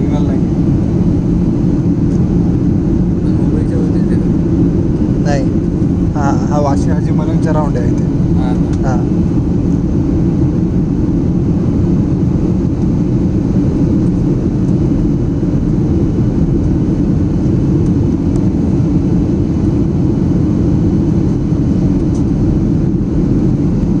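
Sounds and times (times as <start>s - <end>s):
airplane cabin drone: 0.0s - 24.0s.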